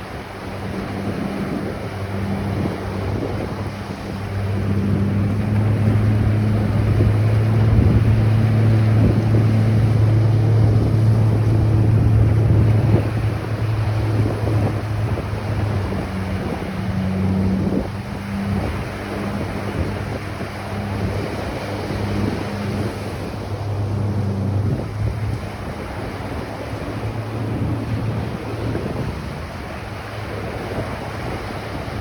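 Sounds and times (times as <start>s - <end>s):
low engine drone: 0.0s - 32.0s
waves washing on beach: 0.0s - 32.0s
wind on microphone: 0.0s - 32.0s.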